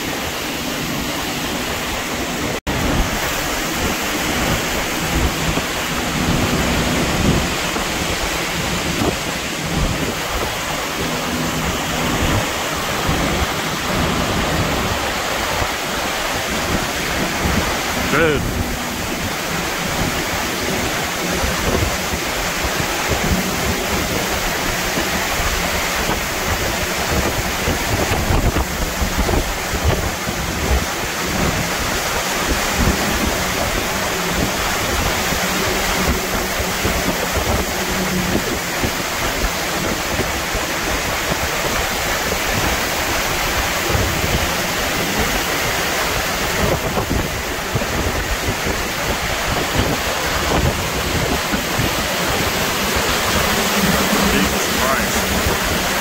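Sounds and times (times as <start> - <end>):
heavy driving rain: 0.0 - 56.0
hurricane wind roar: 0.0 - 56.0
wind gusts buffeting microphone: 0.0 - 56.0.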